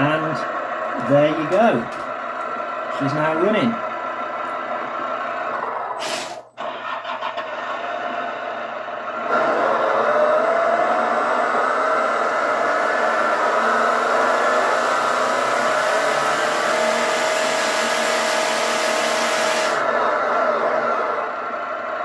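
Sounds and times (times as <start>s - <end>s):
simulated engine from small speaker: 0.0s - 22.0s.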